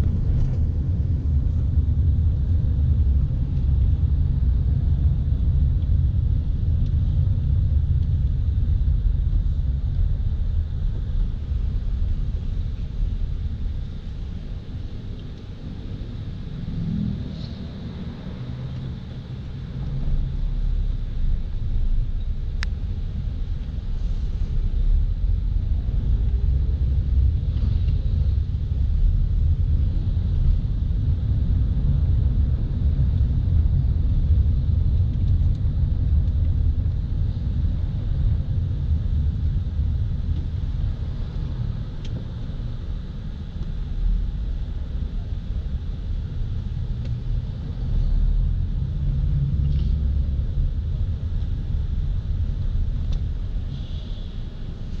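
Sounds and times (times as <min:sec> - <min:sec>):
car interior road noise: 0:00.0 - 0:55.0.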